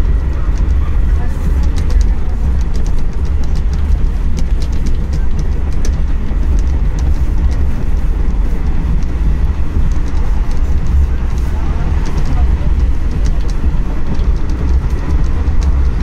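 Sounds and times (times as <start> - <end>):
small clicks and rattles: 0.0 - 16.0
vehicle interior rumble: 0.0 - 16.0.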